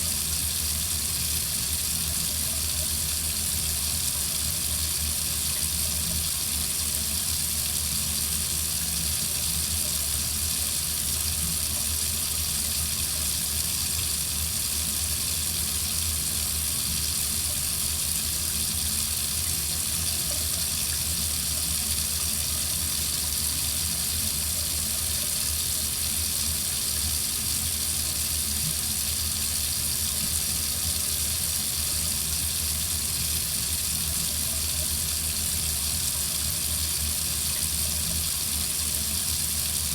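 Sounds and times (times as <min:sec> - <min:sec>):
faucet water running into sink: 0:00.0 - 0:39.9.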